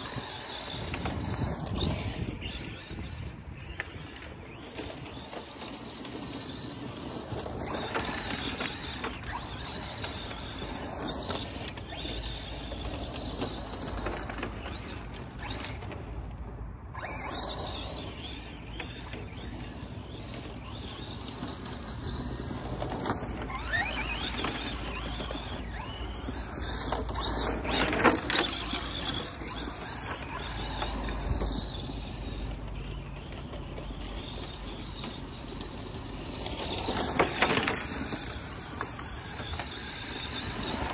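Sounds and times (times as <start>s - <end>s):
rc truck motor whining: 0.0s - 40.9s.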